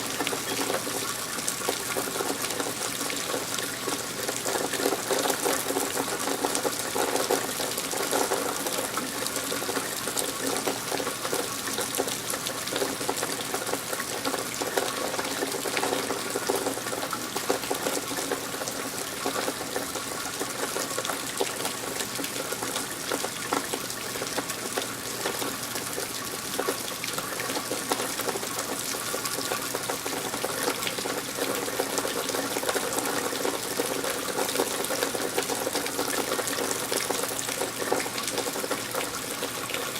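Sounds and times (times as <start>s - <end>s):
steady rain patter: 0.0s - 39.9s
water pouring and splashing: 0.0s - 39.9s.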